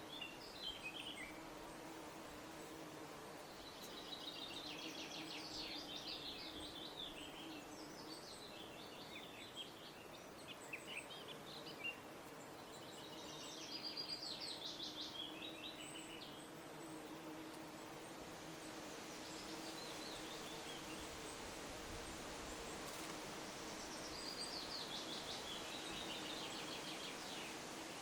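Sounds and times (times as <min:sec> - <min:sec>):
songbird singing: 0:00.0 - 0:21.6, 0:22.4 - 0:28.0.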